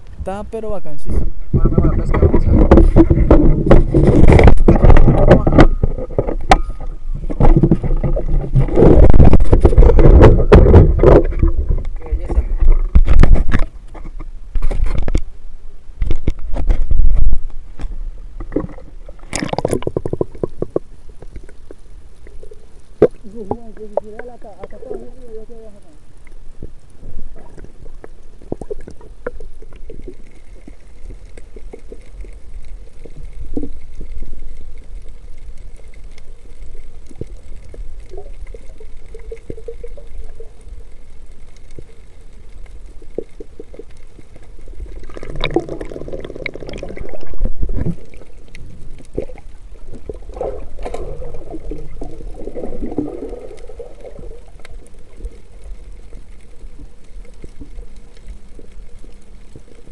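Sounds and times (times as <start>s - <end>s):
underwater rumble: 0.0s - 59.9s
bubbly gurgling: 0.9s - 13.7s, 18.4s - 21.6s, 26.6s - 59.9s
underwater clicks: 1.5s - 15.3s, 16.0s - 25.0s, 26.2s - 59.8s.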